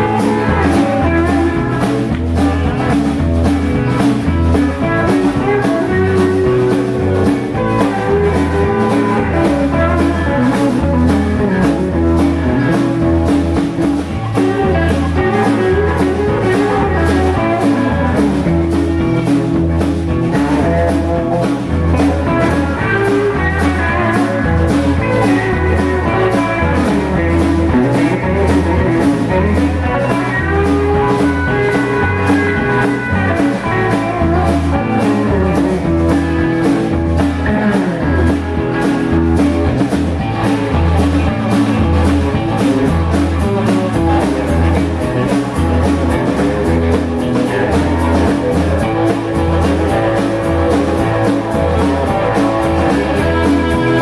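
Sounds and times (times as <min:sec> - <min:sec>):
blues band playing: 0:00.0 - 0:54.0
lead guitar: 0:00.0 - 0:54.0.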